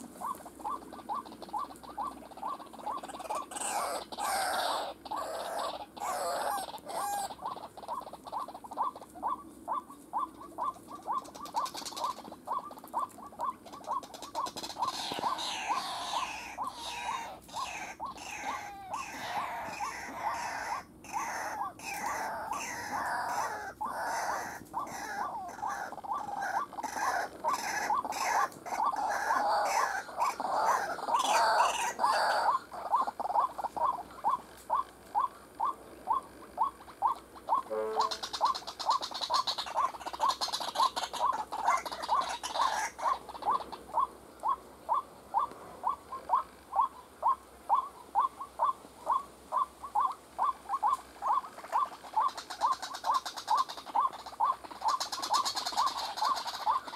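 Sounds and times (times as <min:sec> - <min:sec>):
waterhen calling repeated notes: 0:00.1 - 0:56.9.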